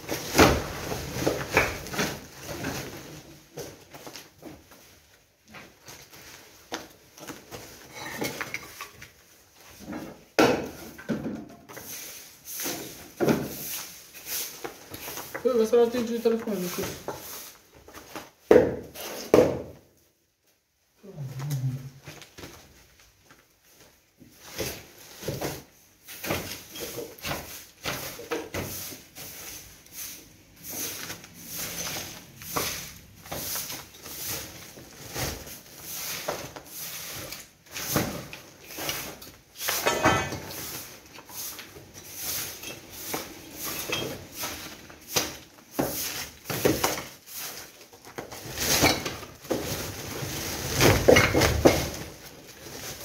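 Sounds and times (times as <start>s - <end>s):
plastic sacks rustling: 0.0s - 10.4s, 11.6s - 19.4s, 21.7s - 53.0s.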